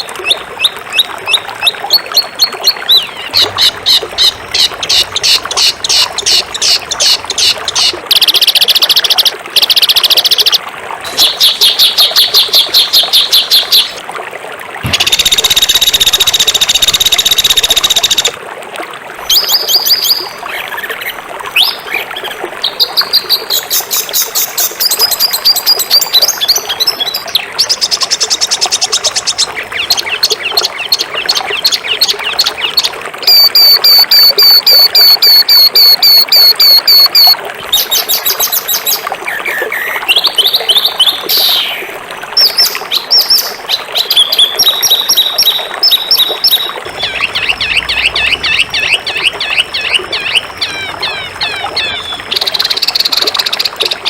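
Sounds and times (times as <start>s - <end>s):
songbirds singing: 0.0s - 14.0s, 19.3s - 54.0s.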